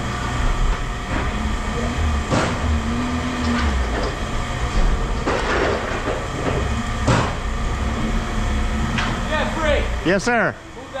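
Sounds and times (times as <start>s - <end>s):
machinery rumbling: 0.0s - 11.0s.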